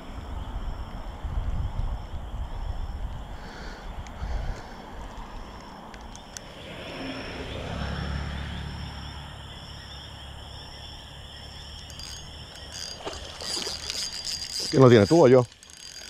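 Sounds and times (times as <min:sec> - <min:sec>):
frogs and insects trilling: 0:00.0 - 0:16.0.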